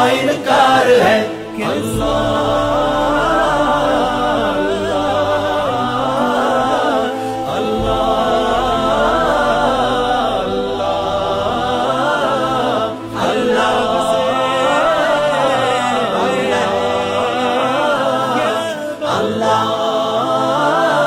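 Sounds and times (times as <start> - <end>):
voices singing together: 0.0 - 21.0.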